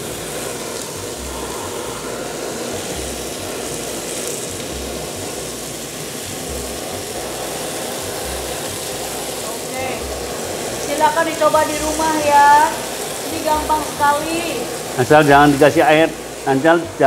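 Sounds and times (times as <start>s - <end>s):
kitchen torch hissing: 0.0s - 17.0s
meat searing: 0.0s - 17.0s.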